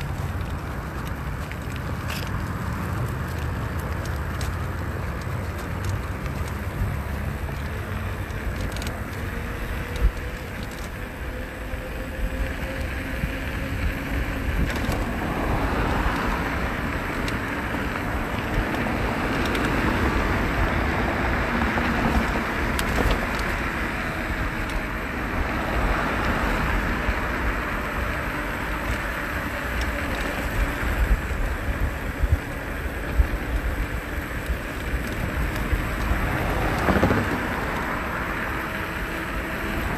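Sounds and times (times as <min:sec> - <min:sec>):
road and tyre noise: 0:00.0 - 0:39.9
wind rushing over microphone: 0:05.7 - 0:39.9.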